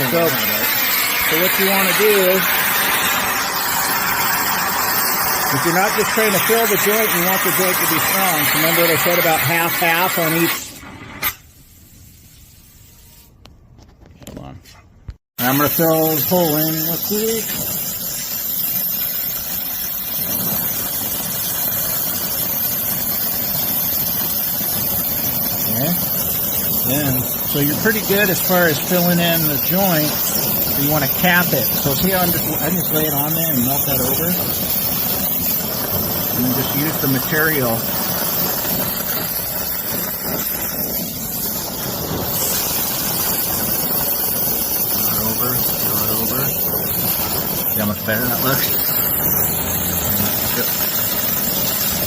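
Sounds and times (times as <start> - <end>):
torch flame rushing: 0.0 - 12.4, 15.4 - 52.0.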